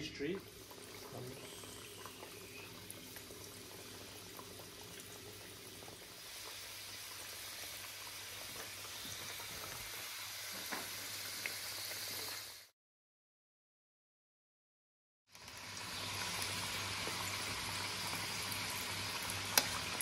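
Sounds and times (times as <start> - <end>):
food deep-frying in oil: 0.0 - 12.7, 15.3 - 20.0.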